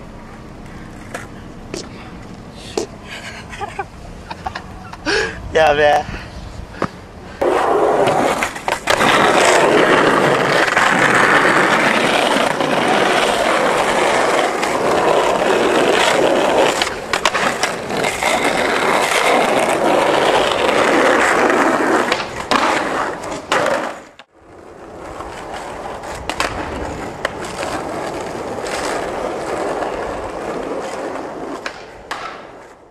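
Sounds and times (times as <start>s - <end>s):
skateboard wheels rolling on asphalt: 0.0s - 32.9s.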